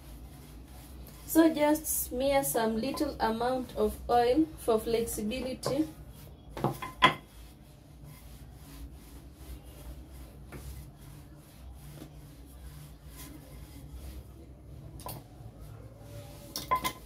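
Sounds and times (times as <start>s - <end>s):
hands rubbing dough: 0.0s - 17.0s.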